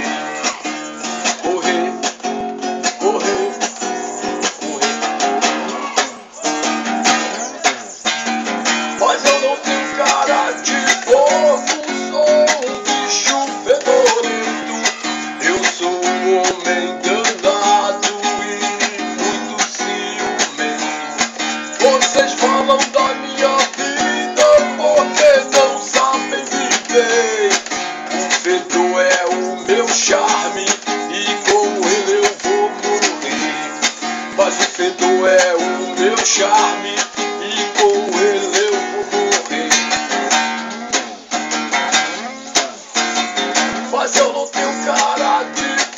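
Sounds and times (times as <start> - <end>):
strummed acoustic guitar: 0.0 - 45.9.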